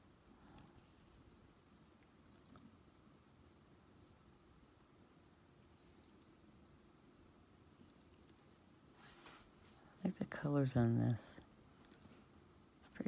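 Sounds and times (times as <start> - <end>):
faint high chirp: 0.0 - 13.0.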